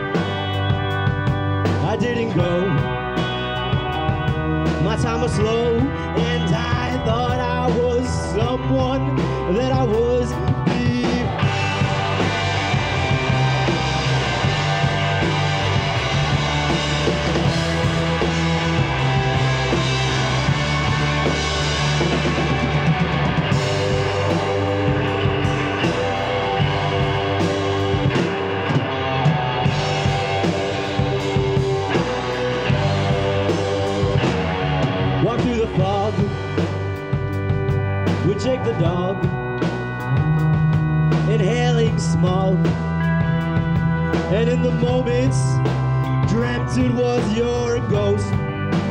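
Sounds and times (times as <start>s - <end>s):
drum kit: 0.0s - 48.9s
electric bass: 0.0s - 48.9s
electric guitars: 0.0s - 48.9s.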